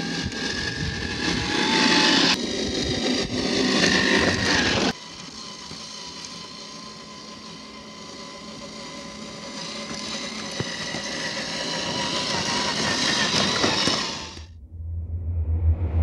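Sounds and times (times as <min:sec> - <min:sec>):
electric motor whining: 0:00.0 - 0:14.5.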